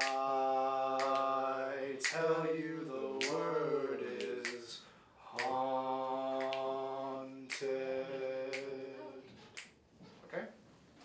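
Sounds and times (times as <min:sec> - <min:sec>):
man singing a cappella: 0:00.0 - 0:09.3.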